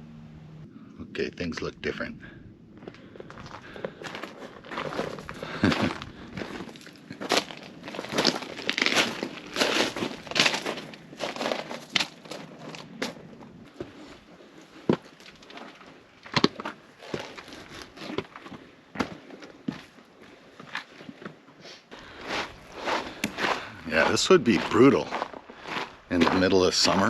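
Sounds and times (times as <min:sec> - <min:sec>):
footsteps crunching on gravel: 0:02.8 - 0:21.3, 0:21.9 - 0:27.0.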